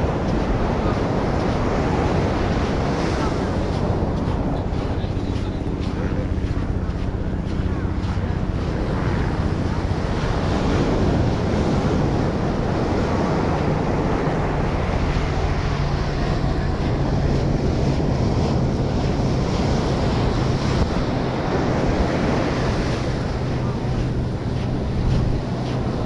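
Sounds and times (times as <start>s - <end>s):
ocean surf on sand beach: 0.0s - 26.0s
wind noise on microphone: 0.0s - 26.0s.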